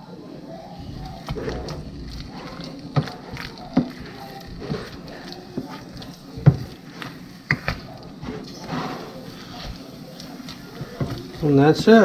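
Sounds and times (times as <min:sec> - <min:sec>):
mashed potatoes squishing: 0:00.7 - 0:12.0.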